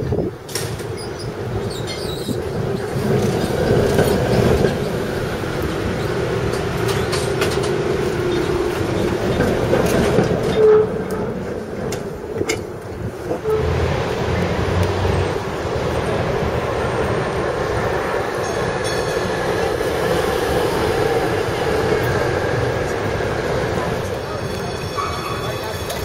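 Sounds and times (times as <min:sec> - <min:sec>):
streetcar wheels rumbling on rails: 0:00.0 - 0:26.0.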